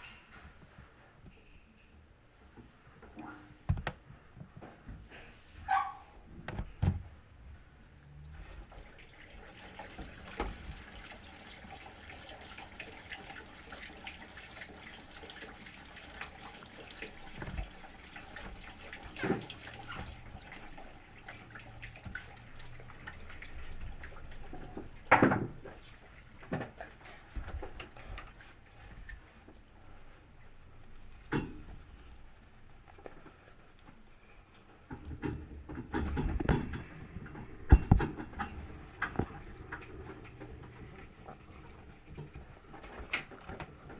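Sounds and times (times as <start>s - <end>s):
water splashing in washing machine: 6.5s - 43.9s.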